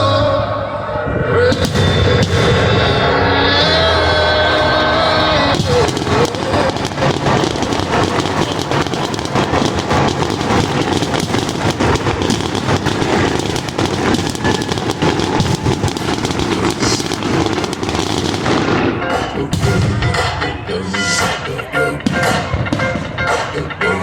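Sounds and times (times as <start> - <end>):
fireworks rumble: 0.0 - 24.0
fireworks crackling and popping: 1.4 - 24.0.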